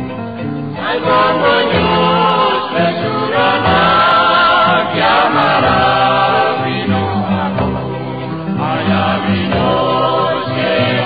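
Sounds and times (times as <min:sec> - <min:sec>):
voices singing together: 0:00.7 - 0:11.0.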